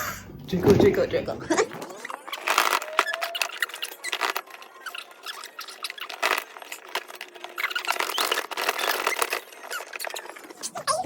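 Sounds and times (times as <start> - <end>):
packaging clicks and rattles: 1.7 - 11.0.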